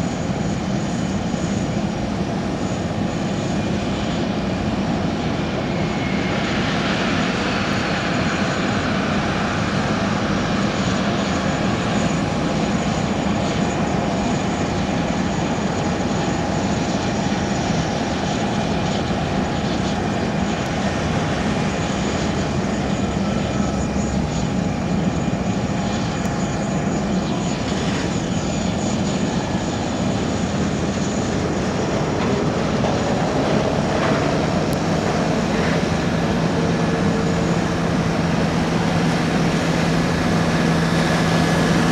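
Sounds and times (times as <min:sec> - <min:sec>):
aircraft roar with whine: 0:00.0 - 0:41.9.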